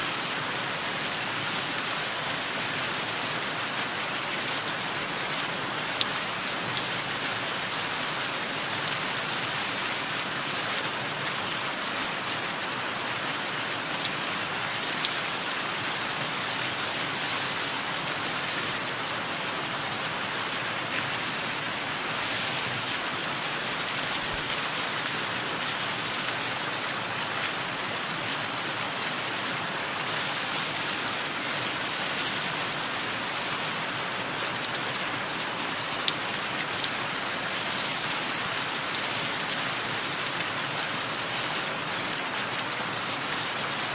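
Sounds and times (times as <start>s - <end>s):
steady rain: 0.0s - 43.9s
small birds chirping: 1.8s - 43.9s.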